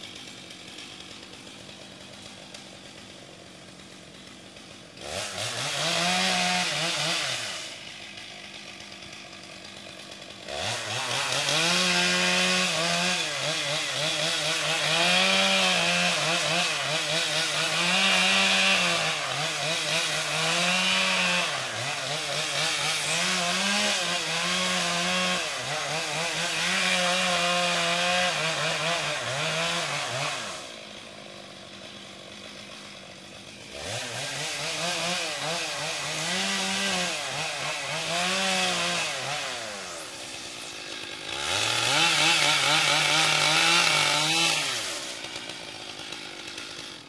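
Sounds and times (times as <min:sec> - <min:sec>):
chainsaw revving and idling: 0:00.0 - 0:47.0.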